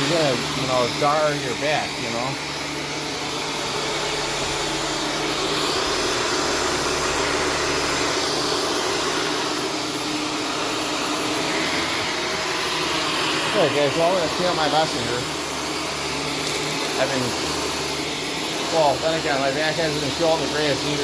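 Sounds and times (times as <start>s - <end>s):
upright vacuum cleaner running: 0.0s - 21.0s.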